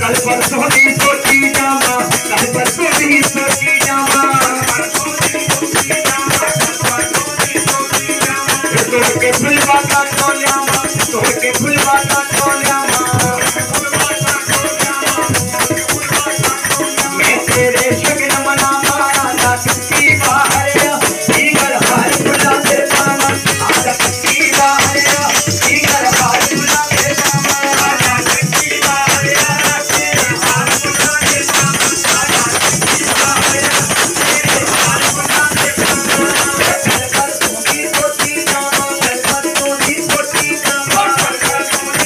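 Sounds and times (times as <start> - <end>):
harmonium playing: 0.0 - 37.6
rattling hand percussion: 0.0 - 42.0.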